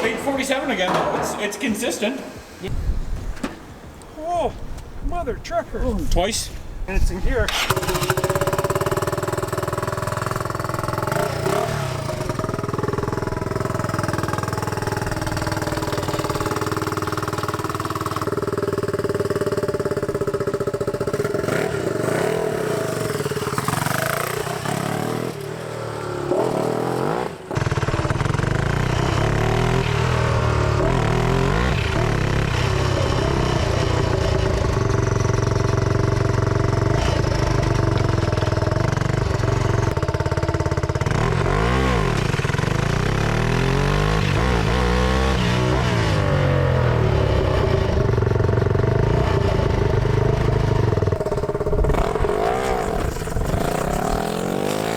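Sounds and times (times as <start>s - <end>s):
lawn mower engine revving: 7.5s - 54.9s.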